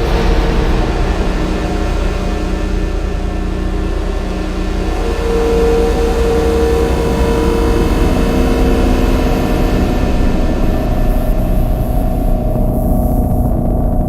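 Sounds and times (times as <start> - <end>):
dark cinematic drone: 0.0 - 14.0.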